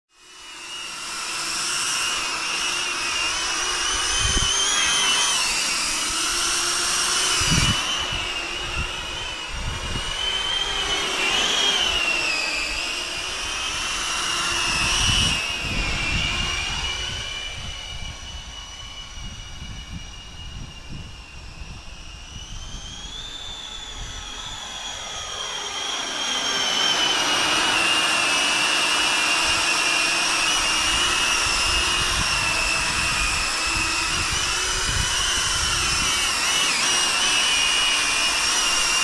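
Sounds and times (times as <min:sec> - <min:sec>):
drone motors whining: 0:00.1 - 0:39.0.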